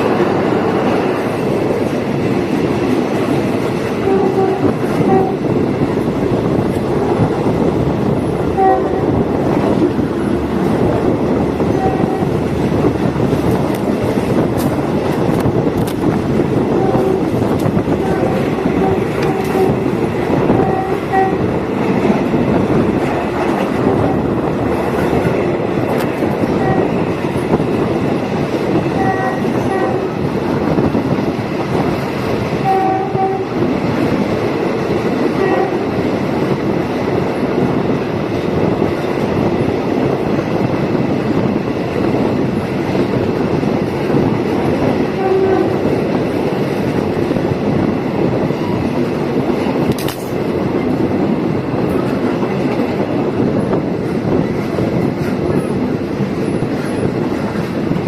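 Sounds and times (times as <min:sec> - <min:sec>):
train rumbling and rattling: 0:00.0 - 0:58.0.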